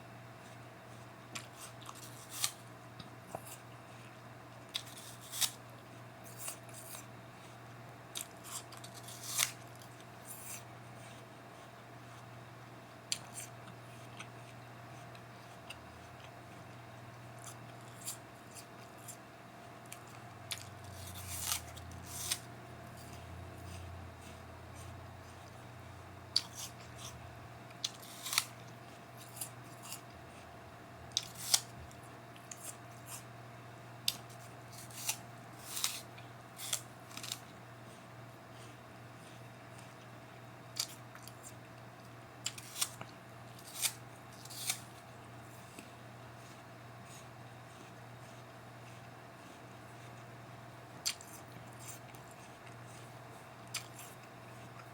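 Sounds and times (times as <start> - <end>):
low electrical hum: 0.0 - 54.9
apple crunching: 0.4 - 12.3, 13.0 - 33.3, 34.0 - 41.8, 42.4 - 54.9.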